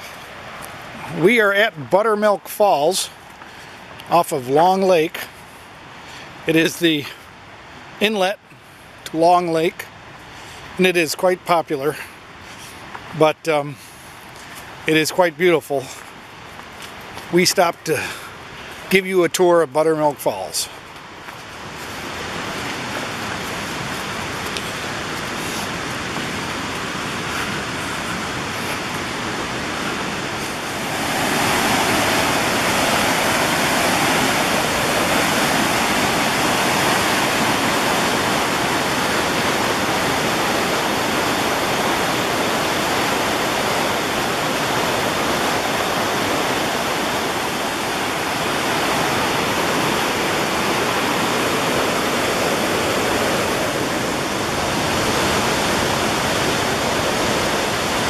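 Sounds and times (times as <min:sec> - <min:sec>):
whitewater rushing over boulders: 0:00.0 - 0:58.0.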